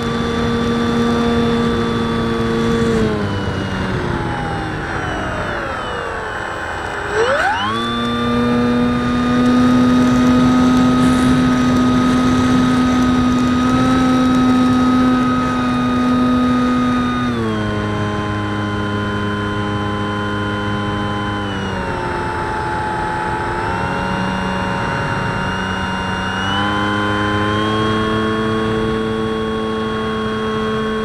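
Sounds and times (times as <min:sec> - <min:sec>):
electric motor and propeller whine: 0:00.0 - 0:31.0.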